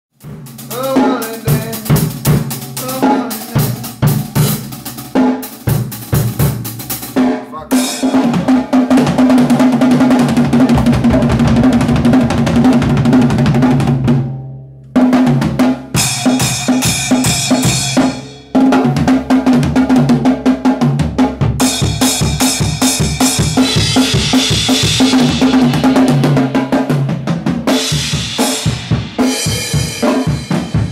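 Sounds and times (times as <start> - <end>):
drum kit played hard: 0.1 - 30.9.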